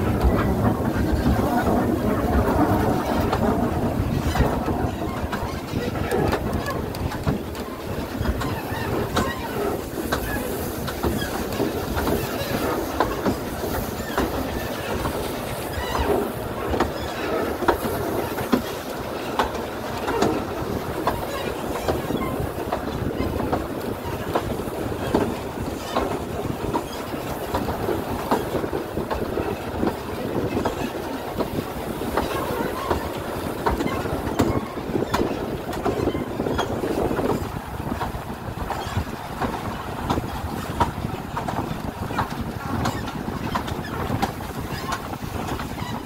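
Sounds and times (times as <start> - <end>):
wheels clattering over rail joints: 0.0 - 46.0
wheels rumbling on rail: 0.0 - 46.0.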